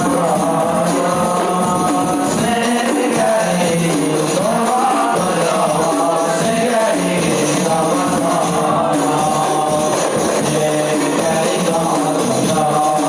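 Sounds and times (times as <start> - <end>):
frame drums beaten: 0.0 - 13.0
voices singing: 0.0 - 13.0.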